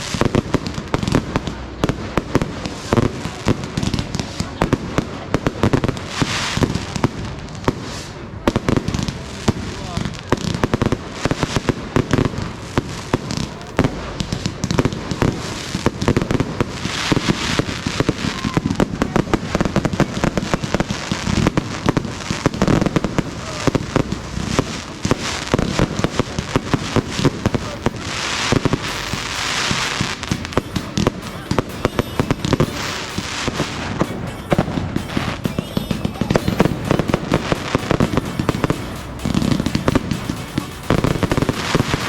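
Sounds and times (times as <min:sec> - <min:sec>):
fireworks bangs and crackles: 0:00.0 - 0:42.0
hissing crackle: 0:00.0 - 0:42.0.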